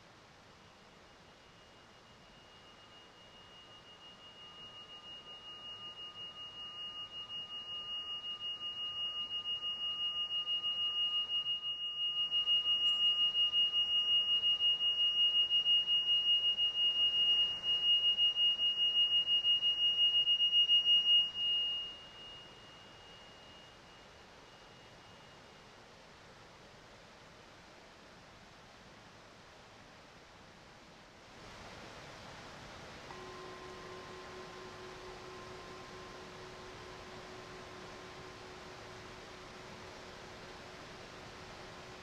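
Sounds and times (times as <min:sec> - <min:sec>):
singing bowl ringing: 0:00.6 - 0:25.7, 0:33.1 - 0:42.0.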